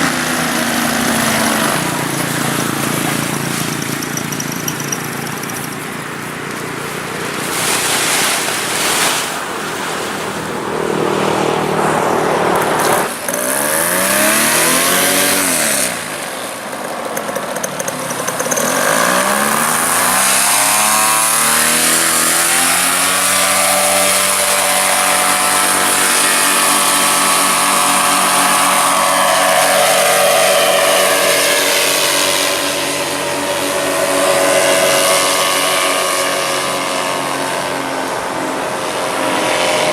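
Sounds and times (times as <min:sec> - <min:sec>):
propeller engine flying past: 0:00.0 - 0:39.9.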